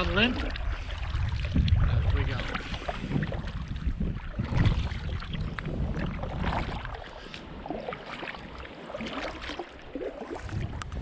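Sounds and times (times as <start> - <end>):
paddle splashing in water: 0.0 - 11.0
wind buffeting microphone: 0.0 - 11.0.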